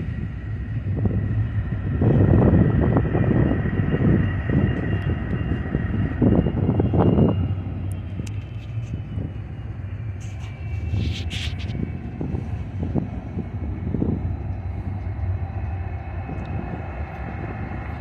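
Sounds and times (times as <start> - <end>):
diesel locomotive engine hum: 0.0 - 18.0
high whine: 0.0 - 18.0
low rumbling: 0.0 - 18.0.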